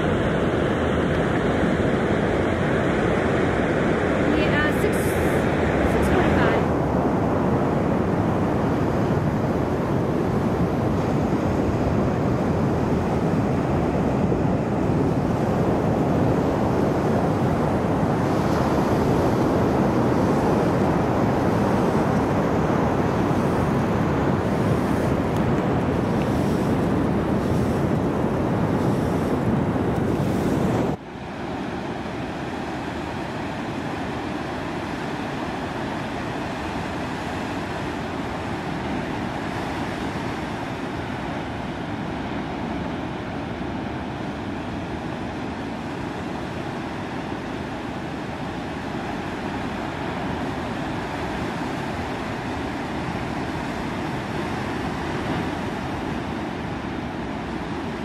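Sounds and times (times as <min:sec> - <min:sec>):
ocean surf breaking: 0:00.0 - 0:58.0
wind on microphone: 0:00.0 - 0:58.0.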